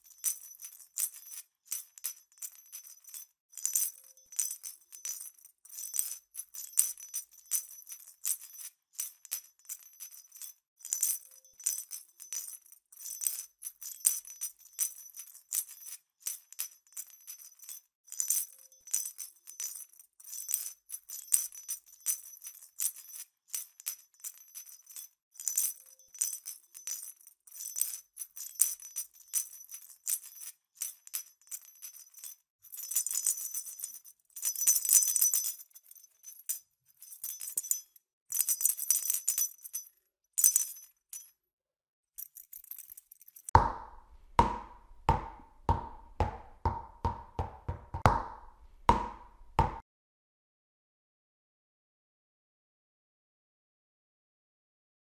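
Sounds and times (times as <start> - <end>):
small jingle bells shaken: 0.0 - 41.4, 42.2 - 49.8.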